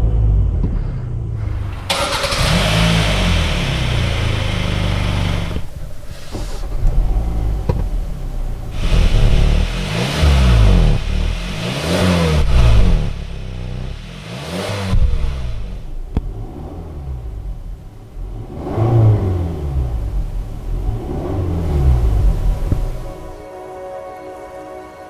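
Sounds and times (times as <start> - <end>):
car engine revving: 0.0 - 23.4.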